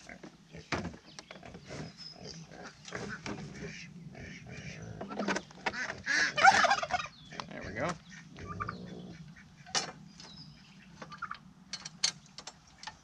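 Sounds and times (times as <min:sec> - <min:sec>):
farm animals calling: 0:00.0 - 0:11.6.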